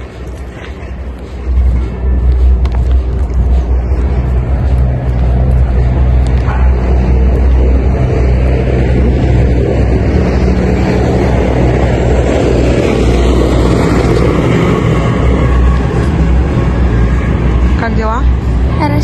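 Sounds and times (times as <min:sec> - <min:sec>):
car engine drone: 0:00.0 - 0:19.0
road rumble: 0:00.0 - 0:19.0.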